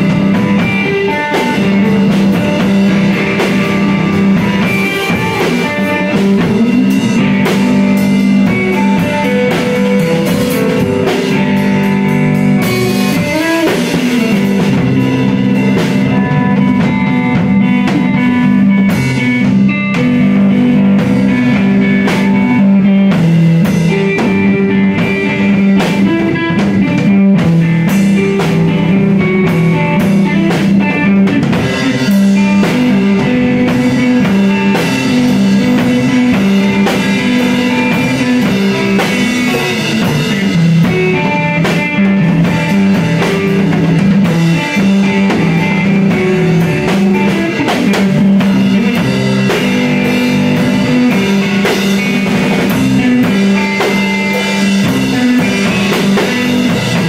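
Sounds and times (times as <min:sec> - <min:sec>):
drum kit playing: 0:00.0 - 0:57.0
electric guitar riff: 0:00.0 - 0:57.0.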